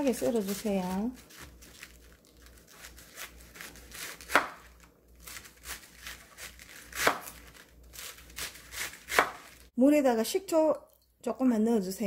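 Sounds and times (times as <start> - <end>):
knife crunching through cabbage: 0.0 - 9.7.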